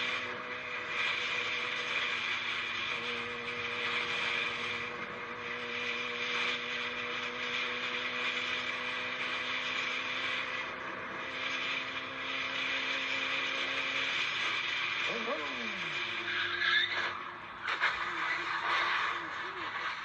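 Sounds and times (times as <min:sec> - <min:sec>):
vehicle hiss and drone: 0:00.0 - 0:20.0.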